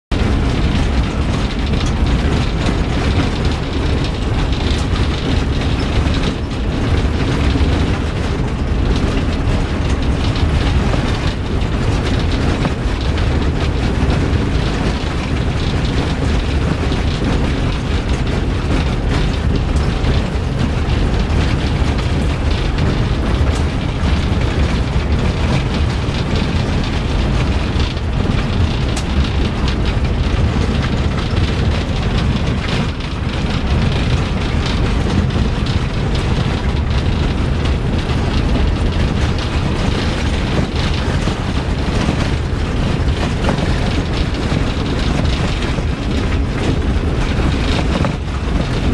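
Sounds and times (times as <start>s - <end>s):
vehicle body rattling and knocking: 0.1s - 48.9s
vehicle engine and tyres rumbling: 0.1s - 48.9s.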